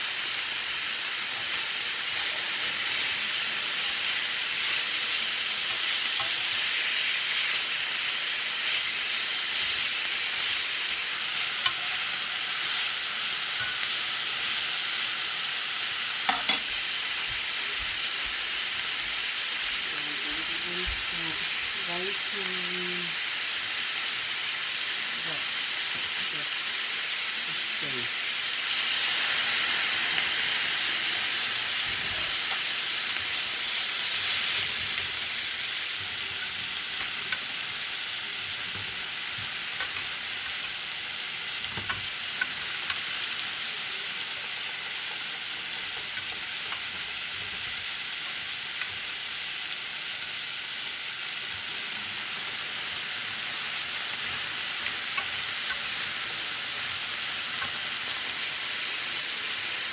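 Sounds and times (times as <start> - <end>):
vegetables sizzling in a skillet: 0.0 - 59.9.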